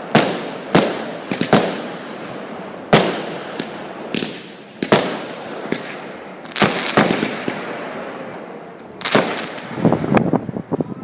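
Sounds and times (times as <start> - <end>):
crackling fireworks pops: 0.0 - 10.0
fireworks bangs: 0.0 - 10.8.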